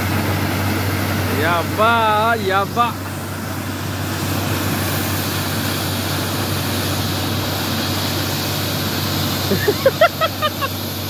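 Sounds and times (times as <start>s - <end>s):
drilling rig engine and compressor: 0.0s - 11.0s
water spraying from borehole: 0.0s - 11.0s.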